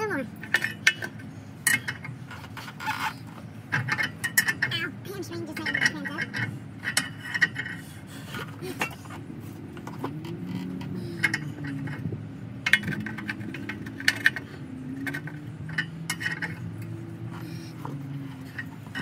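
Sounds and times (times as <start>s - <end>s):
low wavering hum: 0.0s - 19.0s
metal tools clinking and scraping: 0.4s - 19.0s.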